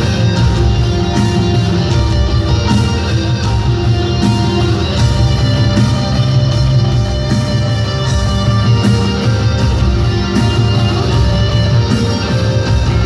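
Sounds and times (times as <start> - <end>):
live rock band: 0.0 - 13.0.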